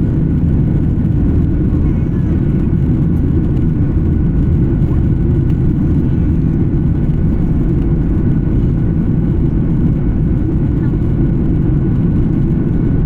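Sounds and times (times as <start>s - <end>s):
faint steady whine: 0.0s - 13.0s
jet engine rumble in cabin: 0.0s - 13.0s.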